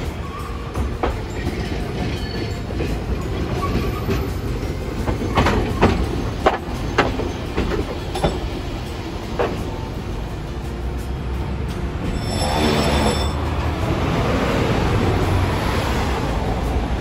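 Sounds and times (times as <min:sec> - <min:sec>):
wheels clacking over rail joints: 0:00.0 - 0:17.0
wheels rumbling on rail: 0:00.0 - 0:17.0.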